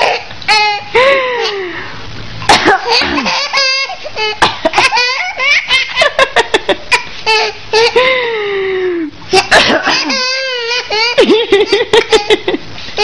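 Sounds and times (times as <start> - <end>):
baby laughing: 0.0 - 1.7, 2.8 - 8.3, 9.3 - 13.0.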